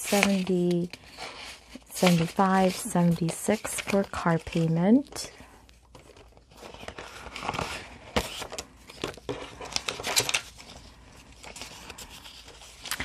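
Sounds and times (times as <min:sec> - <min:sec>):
paper bills rustling: 0:00.0 - 0:13.0.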